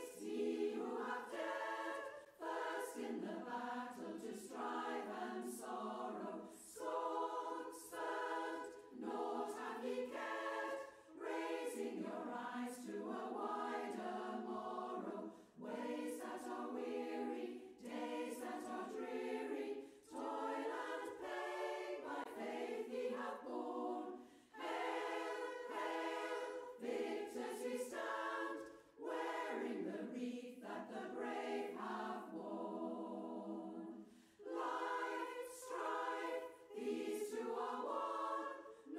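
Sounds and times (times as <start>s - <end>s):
choir singing unaccompanied: 0.0s - 38.9s.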